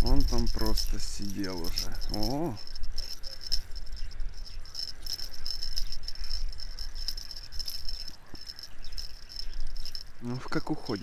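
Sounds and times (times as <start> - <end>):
wind rumble on microphone: 0.0 - 10.2
insects chirring: 0.0 - 11.0.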